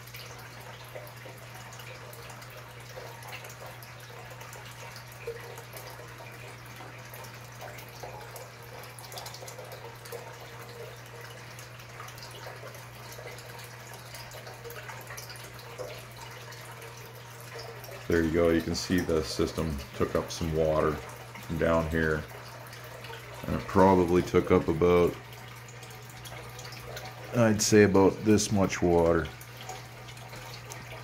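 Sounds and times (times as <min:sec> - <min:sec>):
low steady hum: 0:00.0 - 0:31.0
water splashing into tank: 0:00.0 - 0:31.0.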